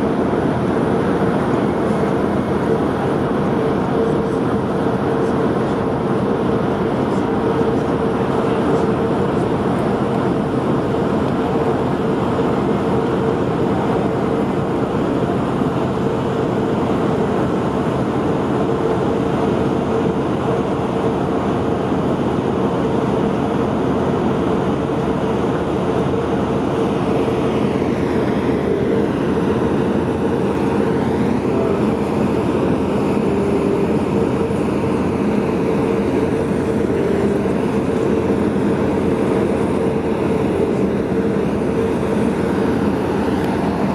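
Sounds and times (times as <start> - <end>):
diesel engines droning: 0.0 - 43.9
water noise: 0.0 - 43.9.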